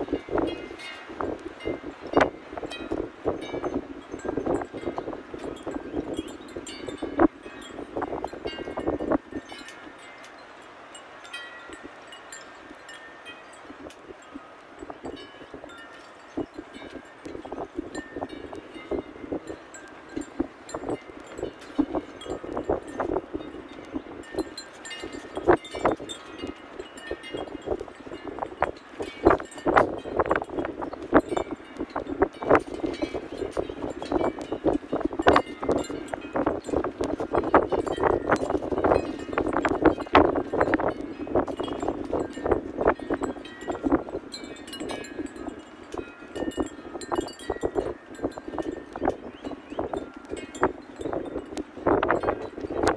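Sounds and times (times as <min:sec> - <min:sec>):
wind buffeting microphone: 0:00.0 - 0:52.9
clinking chime-like tones: 0:00.1 - 0:52.9.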